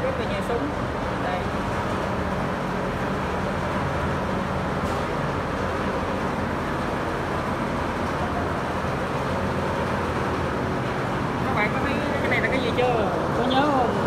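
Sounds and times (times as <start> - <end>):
background hum and rumble: 0.0 - 14.0.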